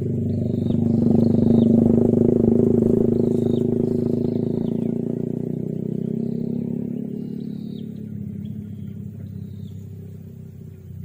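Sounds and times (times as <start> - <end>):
bird calls: 0.0 - 11.0
small engine running: 0.0 - 11.0.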